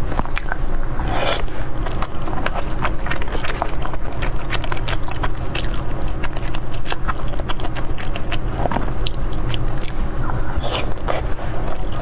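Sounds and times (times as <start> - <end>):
chewing: 0.0 - 12.0
low hum: 0.0 - 12.0.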